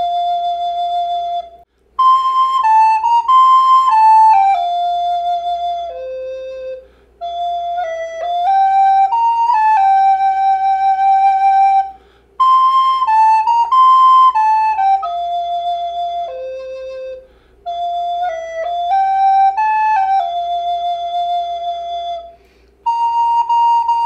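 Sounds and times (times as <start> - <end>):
recorder playing slow hymn melody: 0.0 - 24.0.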